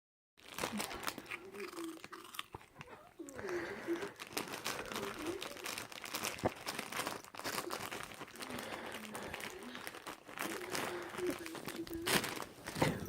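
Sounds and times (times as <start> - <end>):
crisp packet crinkling: 0.4 - 13.0.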